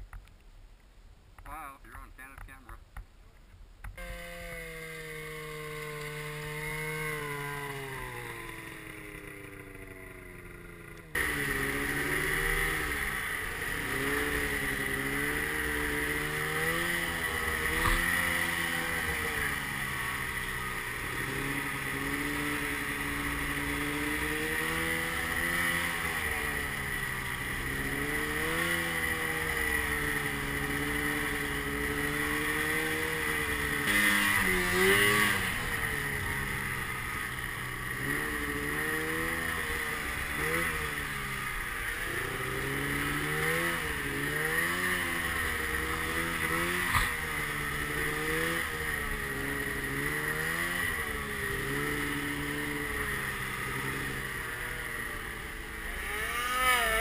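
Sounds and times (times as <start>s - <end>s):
snowmobile engine: 3.9s - 57.0s.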